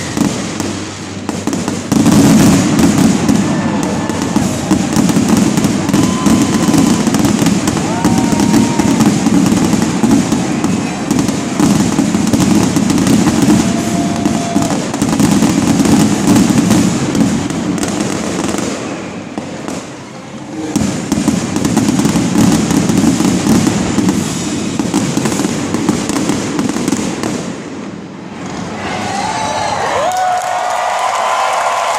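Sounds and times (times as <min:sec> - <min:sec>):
fireworks bursting and crackling: 0:00.0 - 0:31.9.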